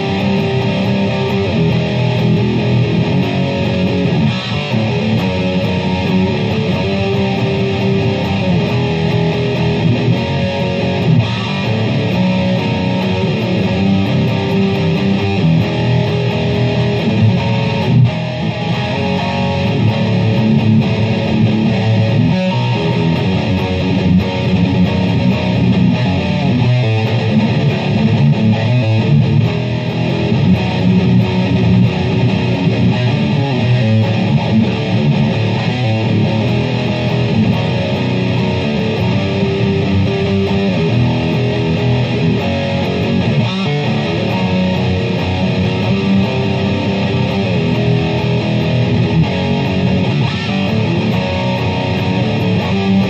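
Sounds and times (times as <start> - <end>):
electric guitar riff: 0.0 - 53.0.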